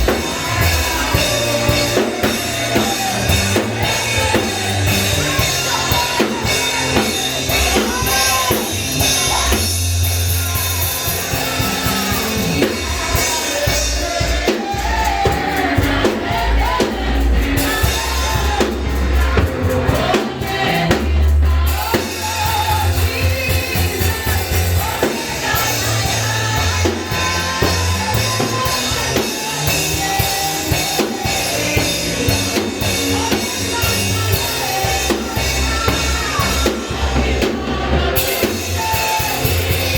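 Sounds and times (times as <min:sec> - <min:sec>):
drum kit: 0:00.0 - 0:39.9
heavy bass line: 0:00.0 - 0:39.9
voices singing: 0:00.0 - 0:39.9.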